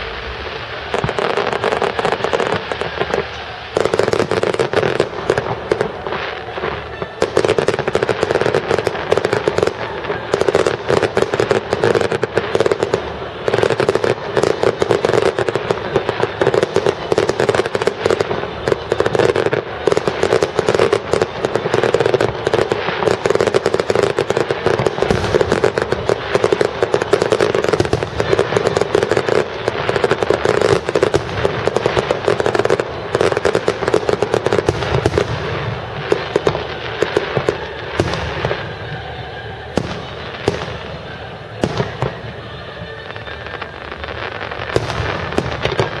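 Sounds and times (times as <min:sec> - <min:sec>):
fireworks crackling and popping: 0:00.0 - 0:46.0.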